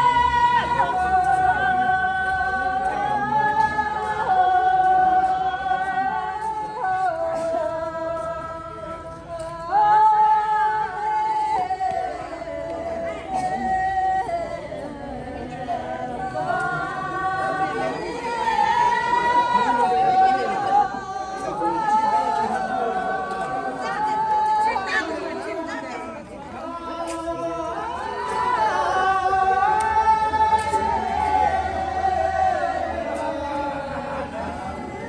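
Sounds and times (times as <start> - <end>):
group singing in unison: 0.0 - 35.0.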